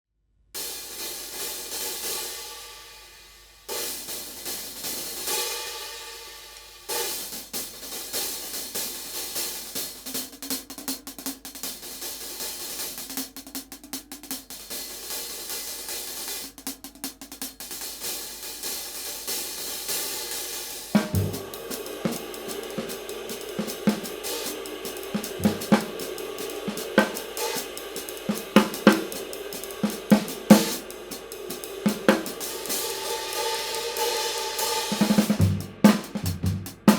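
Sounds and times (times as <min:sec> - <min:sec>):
hi-hat cymbals: 0:00.6 - 0:36.9
bass drum and snare: 0:06.5 - 0:36.9.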